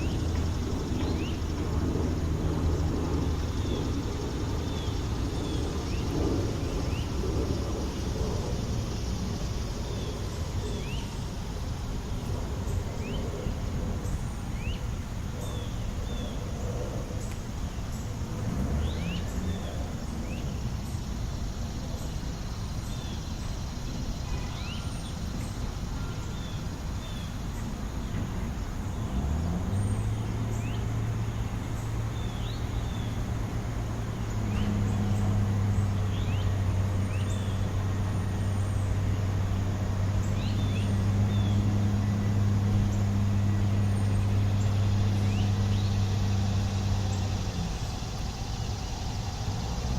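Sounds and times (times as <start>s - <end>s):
low engine hum: 0.0s - 49.9s
small birds chirping: 0.0s - 49.9s
traffic rumble: 0.0s - 49.9s.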